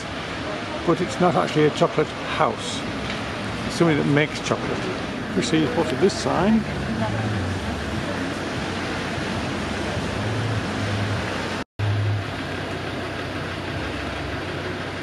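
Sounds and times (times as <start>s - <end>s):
traffic on wet road: 0.0s - 15.0s
low engine hum: 2.2s - 15.0s.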